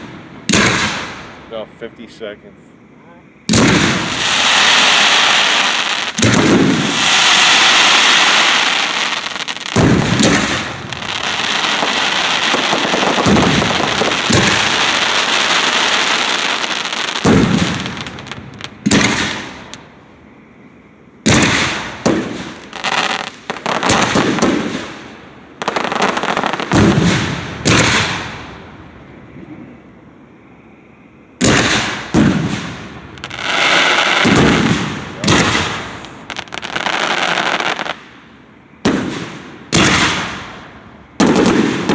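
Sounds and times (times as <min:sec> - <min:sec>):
sharp firework bangs: 0:00.0 - 0:01.4, 0:03.5 - 0:19.8, 0:21.2 - 0:28.6, 0:31.4 - 0:38.1, 0:38.8 - 0:40.6, 0:41.2 - 0:41.9
fireworks booming: 0:00.0 - 0:02.2, 0:03.4 - 0:20.0, 0:21.2 - 0:29.7, 0:31.4 - 0:38.2, 0:38.8 - 0:41.9
fireworks crackling hiss: 0:03.5 - 0:20.1, 0:21.2 - 0:29.0, 0:31.4 - 0:41.9.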